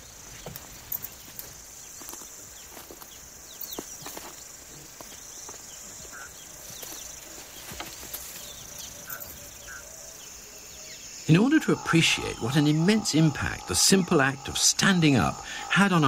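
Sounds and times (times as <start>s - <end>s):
high-pitched steady hiss: 0.0s - 16.0s.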